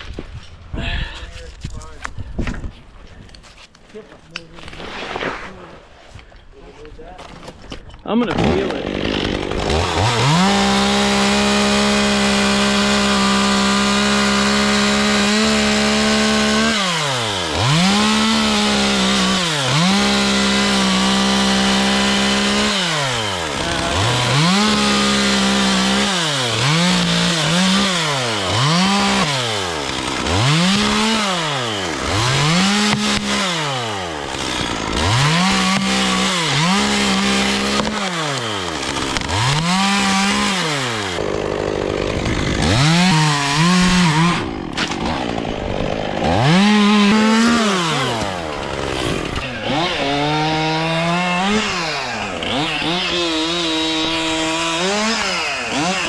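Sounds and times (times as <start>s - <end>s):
chainsaw revving: 8.2s - 56.0s.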